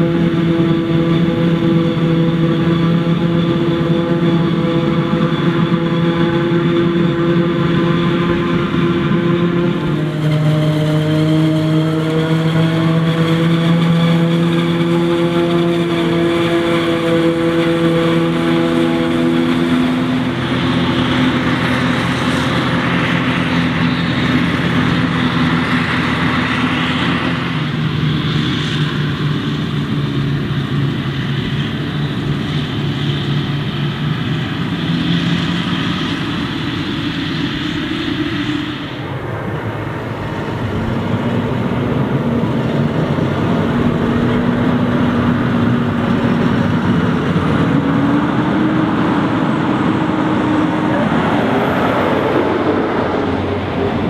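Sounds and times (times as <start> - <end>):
tractor engine: 0.0 - 54.0.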